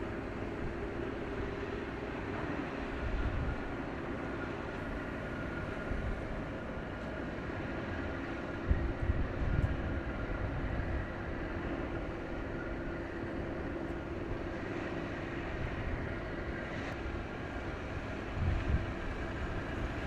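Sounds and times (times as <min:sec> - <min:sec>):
boat engines droning: 0:00.0 - 0:20.0
low rumbling gusts: 0:00.0 - 0:20.0.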